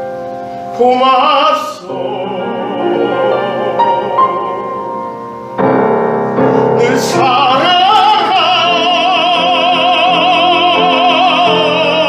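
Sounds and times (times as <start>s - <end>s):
piano accompaniment: 0.0s - 12.0s
classical voice singing with vibrato: 0.7s - 5.0s, 6.5s - 12.0s.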